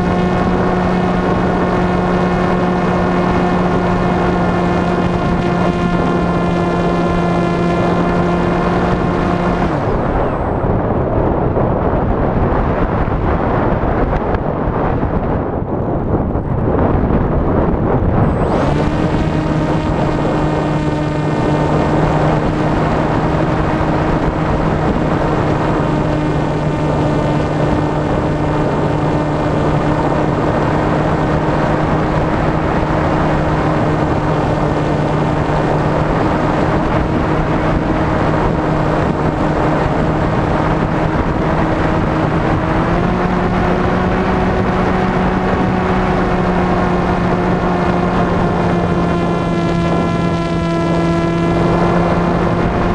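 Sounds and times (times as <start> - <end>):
propeller motor droning: 0.0 - 52.9
wind rushing over microphone: 0.0 - 52.9.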